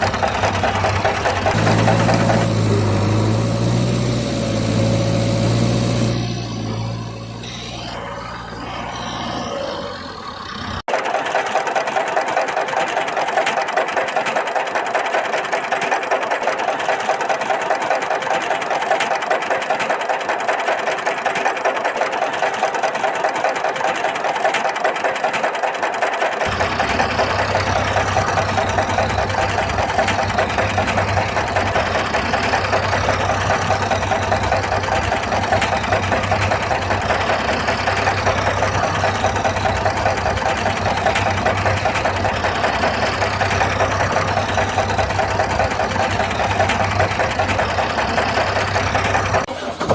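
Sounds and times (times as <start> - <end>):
engine rattling: 0.0 - 49.9.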